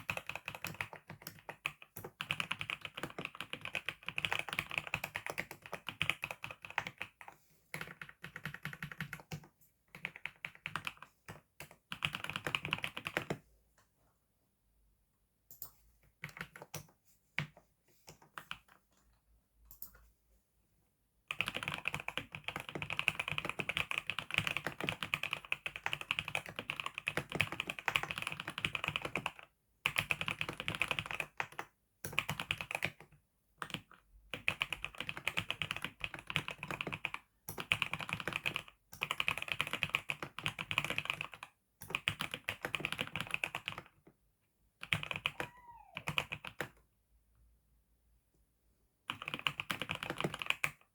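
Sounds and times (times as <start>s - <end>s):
typing on computer keyboard: 0.0s - 13.4s, 15.5s - 18.8s, 21.3s - 44.0s, 44.8s - 46.8s, 49.1s - 50.9s.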